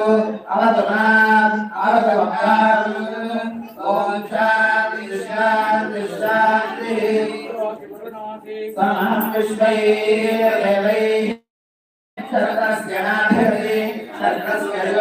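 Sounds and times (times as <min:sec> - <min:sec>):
voices chanting a mantra: 0:00.0 - 0:11.4, 0:12.2 - 0:15.0.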